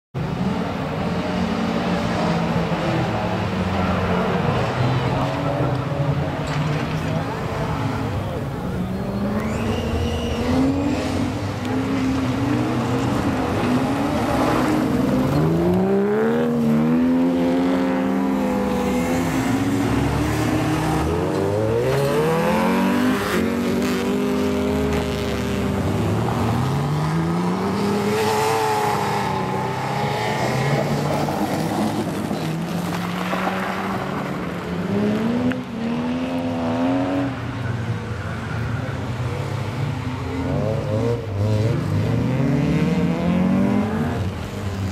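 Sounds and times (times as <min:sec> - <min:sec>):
racing car engines revving: 0:00.2 - 0:44.9.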